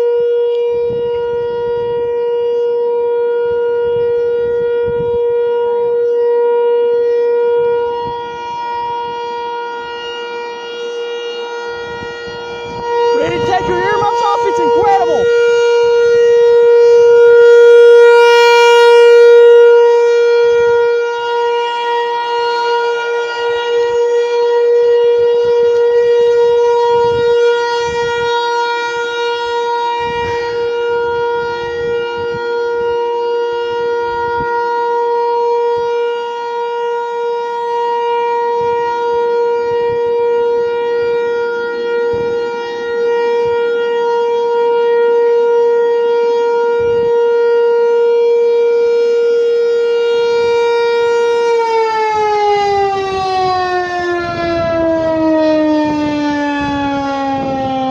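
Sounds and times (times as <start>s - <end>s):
warning siren wailing: 0.0s - 57.9s.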